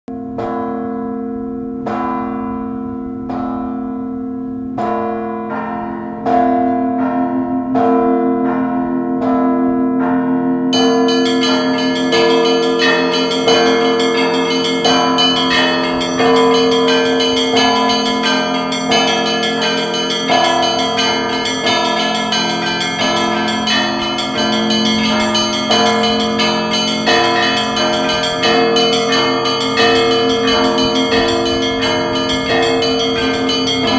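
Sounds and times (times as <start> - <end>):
church bells ringing: 0.1 - 33.9.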